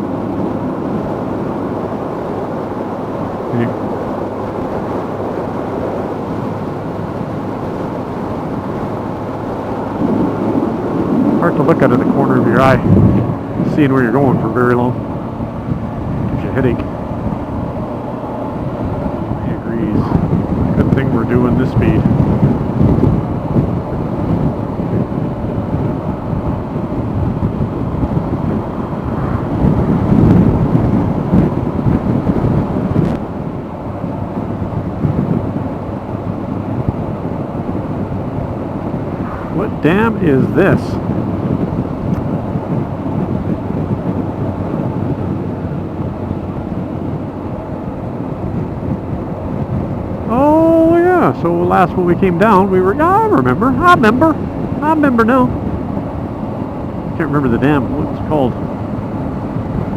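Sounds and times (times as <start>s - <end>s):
wind rush over microphone: 0.0s - 59.9s.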